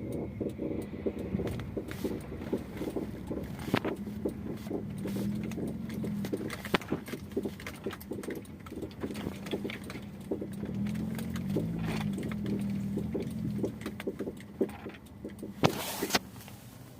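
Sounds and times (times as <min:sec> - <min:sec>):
knocks and clicks from car: 0:00.0 - 0:16.5
car engine hum: 0:00.0 - 0:16.9.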